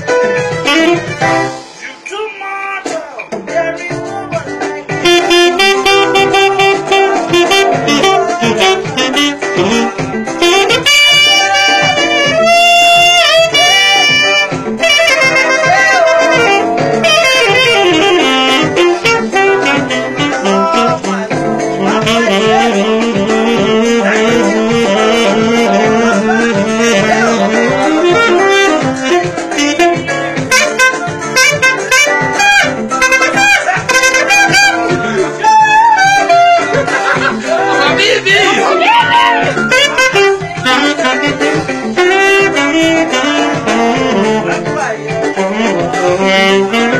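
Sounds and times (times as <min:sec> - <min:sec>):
saxophone melody: 0:00.0 - 0:01.7, 0:04.9 - 0:46.9
backing track with steady beat: 0:00.0 - 0:46.9.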